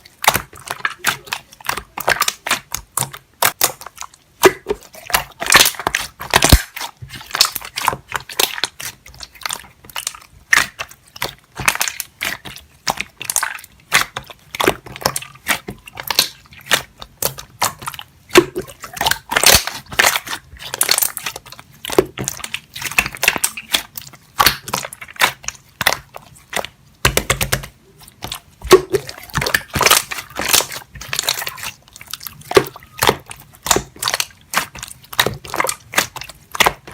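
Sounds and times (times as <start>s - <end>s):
slime clicking and popping: 0.0s - 36.9s.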